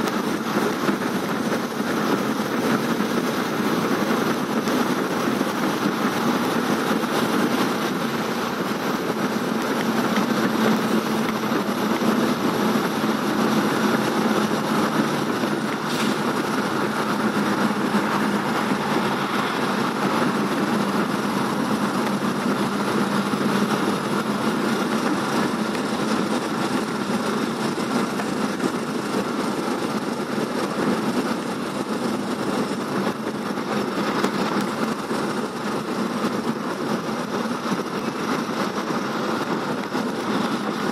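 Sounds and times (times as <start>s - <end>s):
vehicle interior rumble: 0.0s - 40.9s.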